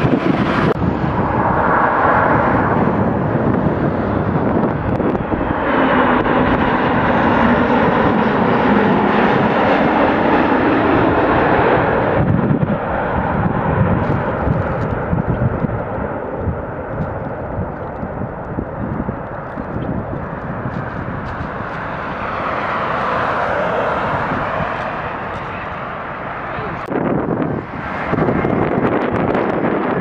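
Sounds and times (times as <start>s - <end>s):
jet airliner passing low: 0.0s - 30.0s.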